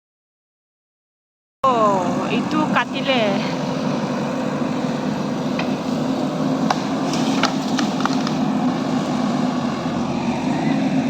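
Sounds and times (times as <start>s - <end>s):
low engine drone: 1.6s - 11.0s.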